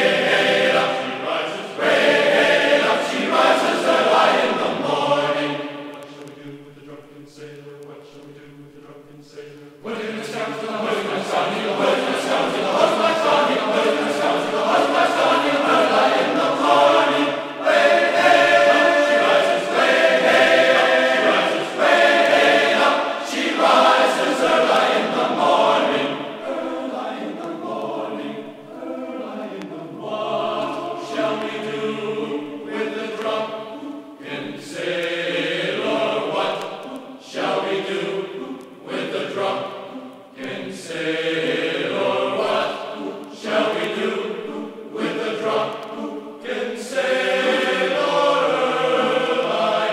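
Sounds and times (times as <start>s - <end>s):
choir singing held notes: 0.0s - 49.9s.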